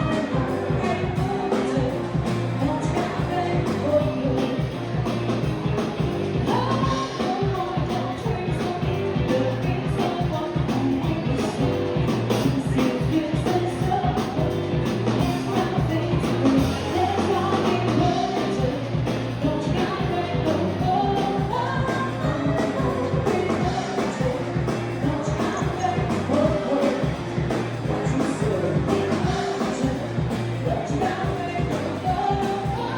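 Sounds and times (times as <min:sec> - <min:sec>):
person singing: 0:00.0 - 0:05.6, 0:06.3 - 0:32.9
live rock band playing: 0:00.0 - 0:32.9.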